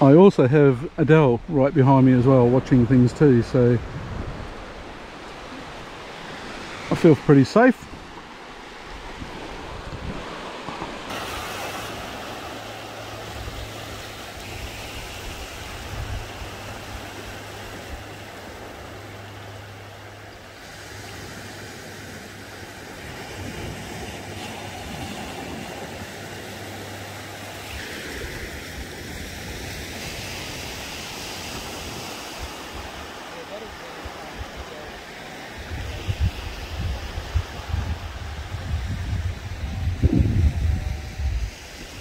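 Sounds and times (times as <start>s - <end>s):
small waves washing over sand: 1.4s - 42.0s.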